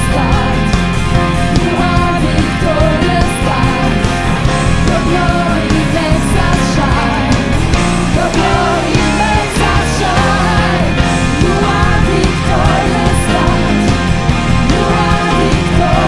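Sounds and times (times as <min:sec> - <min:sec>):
person singing: 0:00.0 - 0:00.8, 0:01.4 - 0:14.0, 0:14.6 - 0:16.0
drum strikes: 0:00.0 - 0:16.0
rock band playing: 0:00.0 - 0:16.0.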